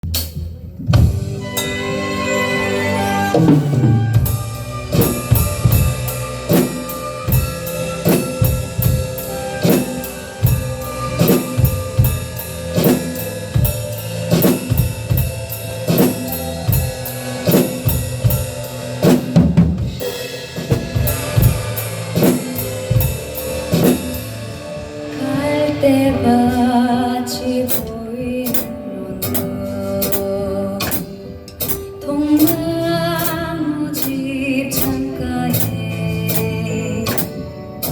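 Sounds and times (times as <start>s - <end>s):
drum kit playing: 0.0s - 37.9s
recorded band backing track: 0.0s - 37.9s.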